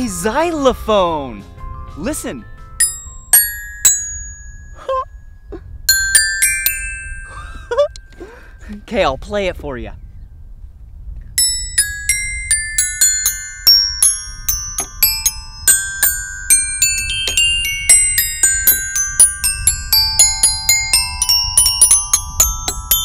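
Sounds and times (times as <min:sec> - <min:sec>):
toy glockenspiel notes: 0:02.0 - 0:08.9, 0:11.4 - 0:23.0.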